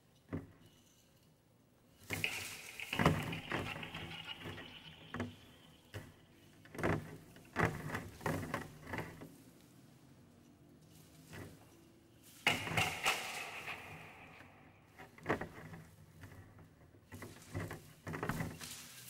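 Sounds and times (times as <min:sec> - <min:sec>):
rustles scrapes and light knocks: 0:00.1 - 0:19.0.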